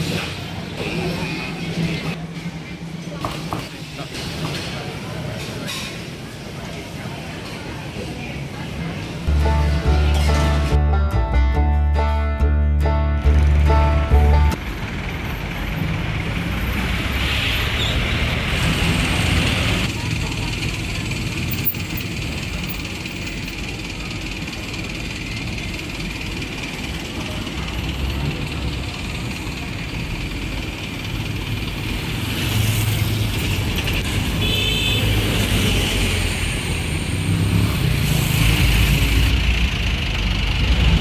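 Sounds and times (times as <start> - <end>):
road traffic: 0.0 - 41.0.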